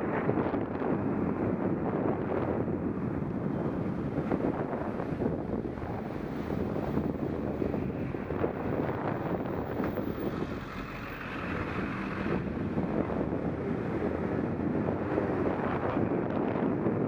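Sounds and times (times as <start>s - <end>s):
wind rushing over microphone: 0.0s - 17.0s
car traffic driving: 2.4s - 17.0s.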